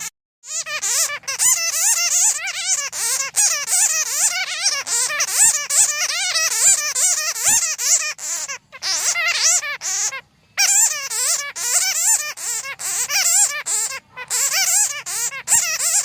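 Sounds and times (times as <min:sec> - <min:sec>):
bats chattering: 0:00.5 - 0:16.0.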